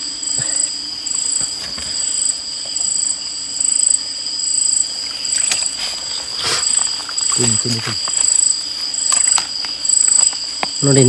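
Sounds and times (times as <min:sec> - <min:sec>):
insect chirp pulsing: 0:00.0 - 0:11.0
insects trilling: 0:00.0 - 0:11.0.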